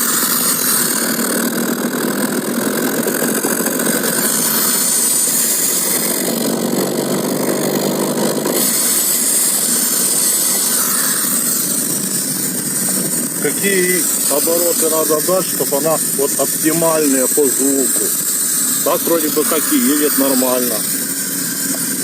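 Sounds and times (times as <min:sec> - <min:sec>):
car engine under throttle: 0:00.0 - 0:19.8.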